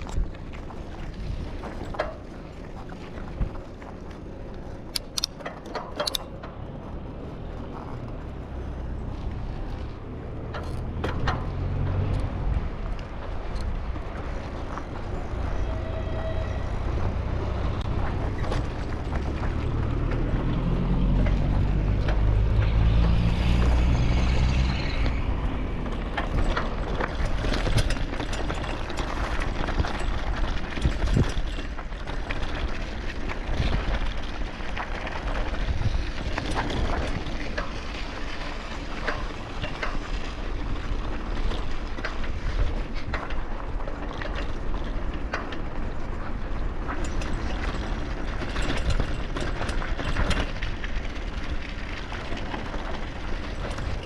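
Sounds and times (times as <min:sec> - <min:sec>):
bicycle tyre road noise: 0:00.0 - 0:54.0.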